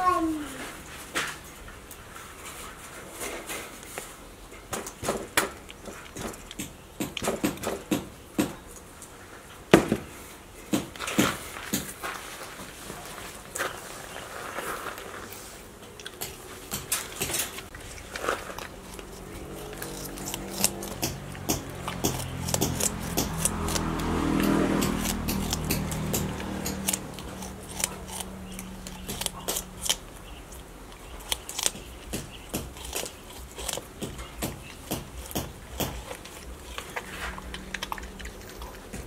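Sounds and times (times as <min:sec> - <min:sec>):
porcupine crunching watermelon: 0:00.0 - 0:39.0.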